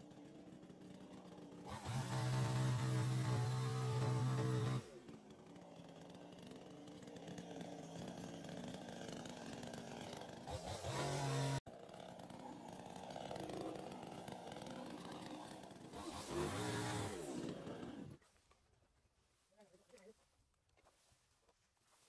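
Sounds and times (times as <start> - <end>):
chainsaw engine revving: 0.0 - 18.2.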